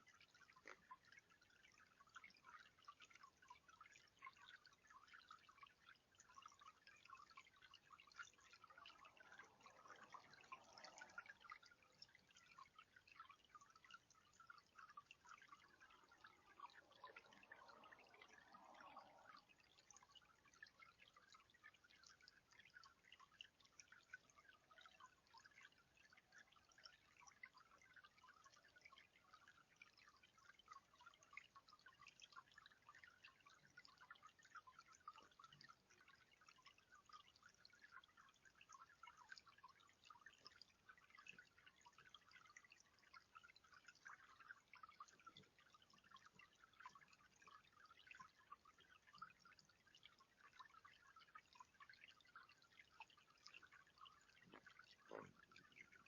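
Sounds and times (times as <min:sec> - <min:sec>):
water dripping in bird bath: 0:00.0 - 0:56.0.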